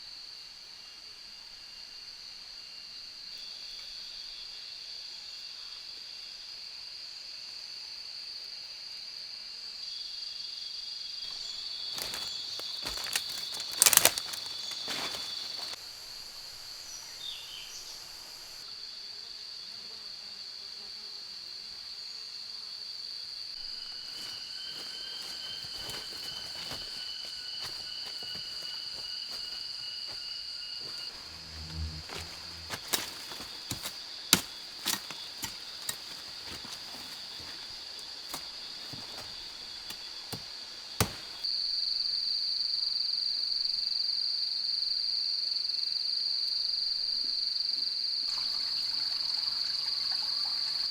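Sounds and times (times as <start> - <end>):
faint insect trill: 0.0 - 50.9
insects droning: 0.0 - 50.9.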